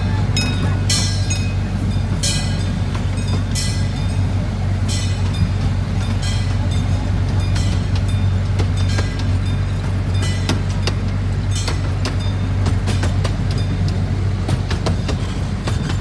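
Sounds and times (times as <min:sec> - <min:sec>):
miniature train rolling: 0:00.0 - 0:16.0
rattling clacks of wheels: 0:00.0 - 0:16.0.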